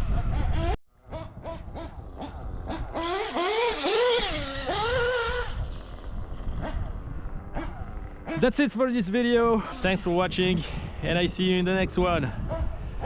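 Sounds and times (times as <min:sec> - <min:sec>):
rc engine revving: 0:00.0 - 0:12.8.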